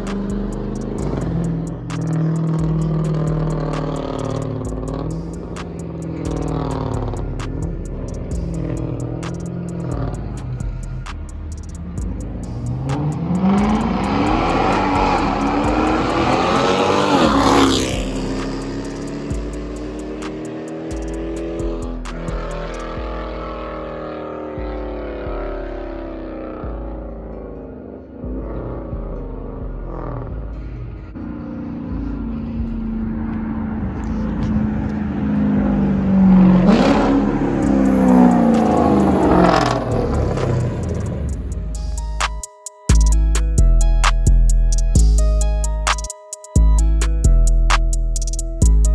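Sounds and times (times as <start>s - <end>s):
car engine accelerating past: 0.0s - 42.0s.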